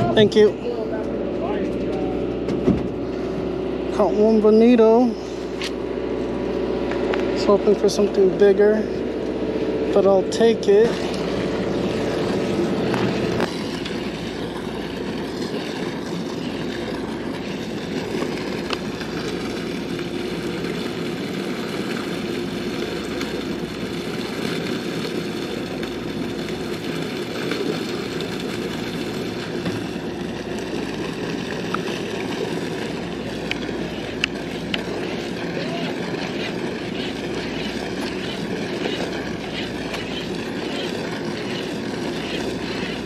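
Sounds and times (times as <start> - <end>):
boat engine droning: 0.0 - 43.0.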